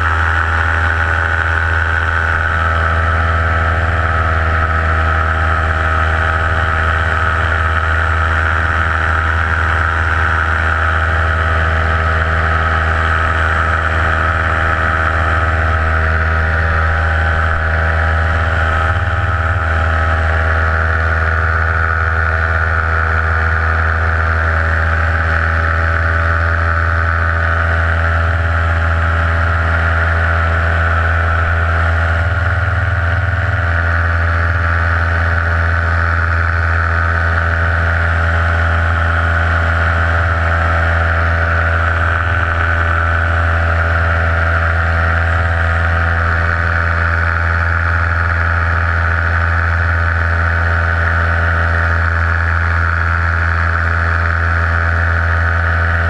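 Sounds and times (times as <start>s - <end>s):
paramotor engine drone: 0.0s - 56.0s.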